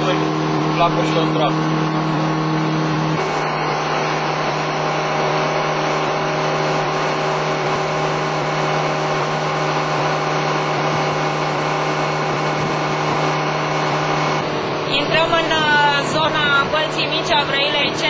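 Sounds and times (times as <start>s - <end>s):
motorboat engine humming: 0.0s - 18.0s.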